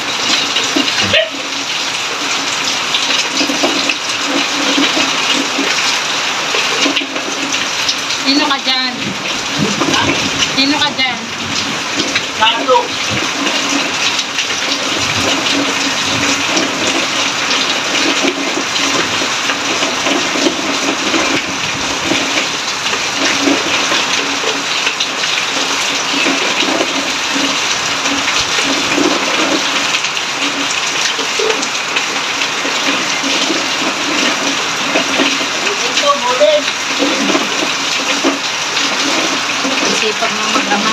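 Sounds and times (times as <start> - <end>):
heavy rain falling: 0.0 - 40.9
water pouring onto concrete: 0.0 - 40.9.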